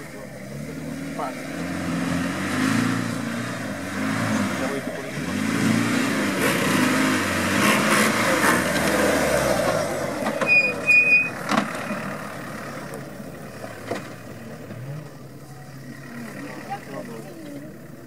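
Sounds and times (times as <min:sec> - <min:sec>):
engine revving: 0:00.0 - 0:17.8.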